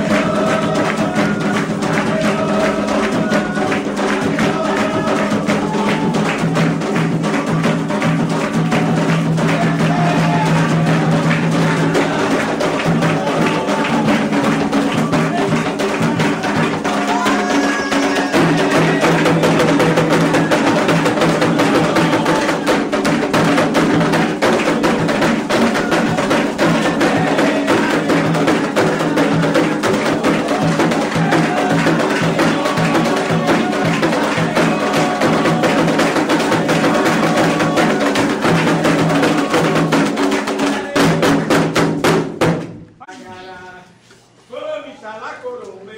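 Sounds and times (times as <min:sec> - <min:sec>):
struck bell percussion: 0:00.0 - 0:40.0
voices singing: 0:00.0 - 0:42.0
hand drums fast rhythm: 0:00.0 - 0:42.8.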